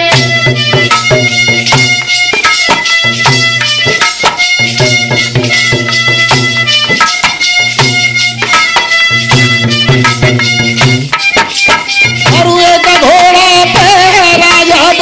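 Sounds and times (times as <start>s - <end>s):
hand-drum beat: 0.0s - 15.0s
harmonium reedy notes: 0.0s - 15.0s.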